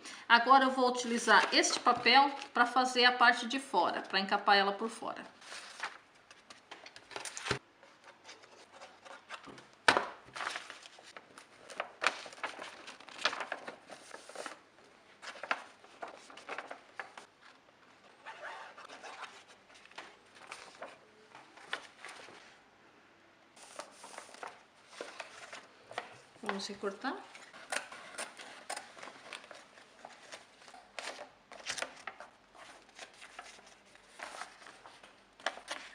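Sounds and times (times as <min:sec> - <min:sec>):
paper and cardboard rustling: 0:01.1 - 0:02.6, 0:05.4 - 0:22.6, 0:23.6 - 0:35.9.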